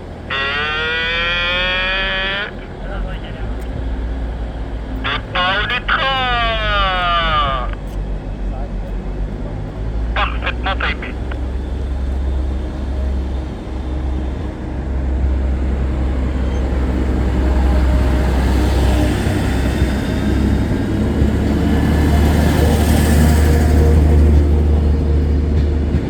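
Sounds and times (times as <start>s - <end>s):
heavy low rumble: 0.0s - 26.0s
train rolling by: 0.0s - 26.0s.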